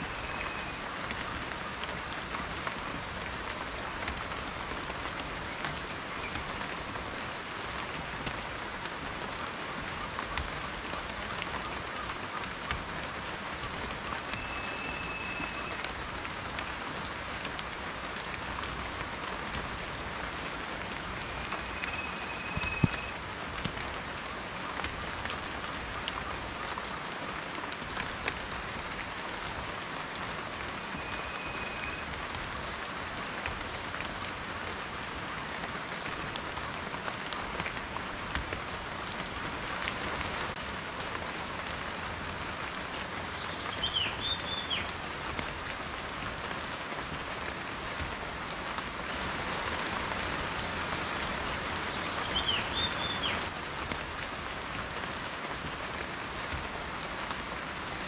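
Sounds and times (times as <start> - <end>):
raindrops ticking on a surface: 0.0 - 58.0.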